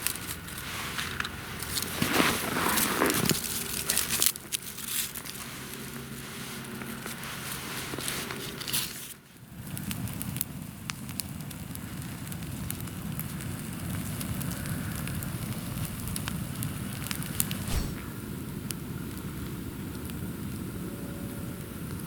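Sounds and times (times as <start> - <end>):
campfire burning: 0.0 - 22.0
fire crackles and pops: 0.0 - 22.0.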